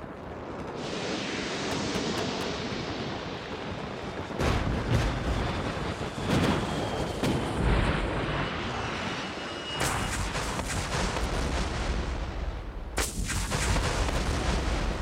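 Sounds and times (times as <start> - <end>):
heavy booms and blasts: 0.1 - 8.2, 9.8 - 15.0.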